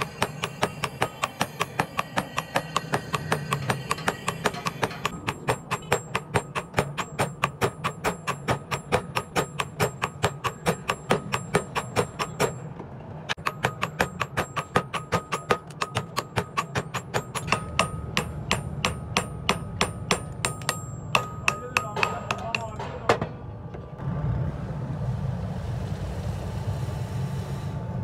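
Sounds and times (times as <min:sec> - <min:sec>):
hammer striking steel on anvil: 0:00.0 - 0:23.5.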